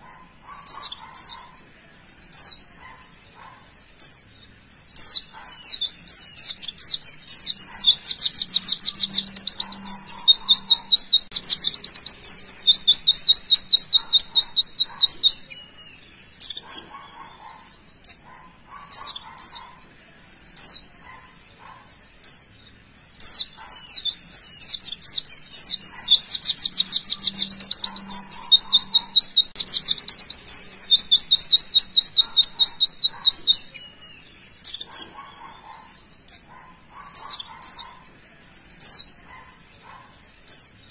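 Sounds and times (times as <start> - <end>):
bird trilling and chirping: 0.0 - 40.9.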